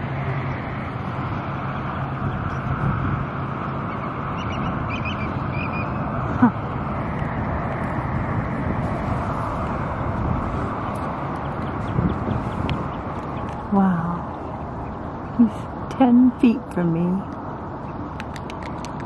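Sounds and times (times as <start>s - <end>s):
road traffic: 0.0s - 19.0s
wind: 0.0s - 19.0s.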